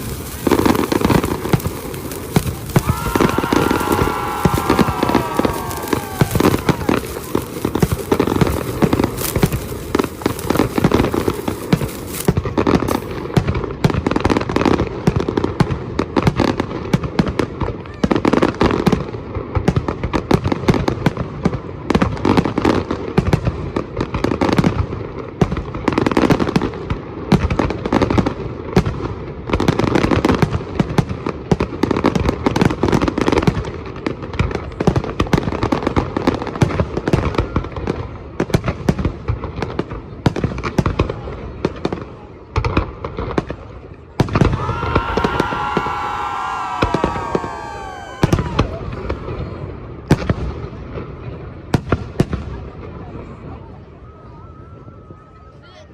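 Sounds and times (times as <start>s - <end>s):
fireworks bangs and crackles: 0.0s - 55.8s.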